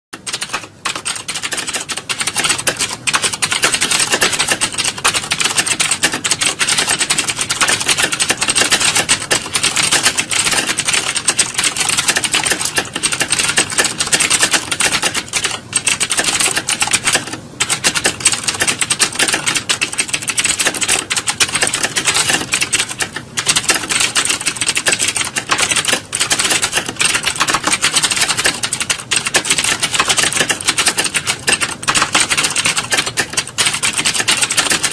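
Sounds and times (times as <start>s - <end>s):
fast typing key clicks: 0.2s - 34.9s.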